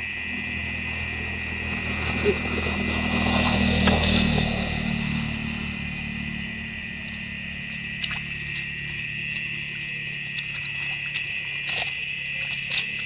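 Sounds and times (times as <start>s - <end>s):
low engine hum: 0.0s - 13.0s
night insect chorus: 0.0s - 13.0s.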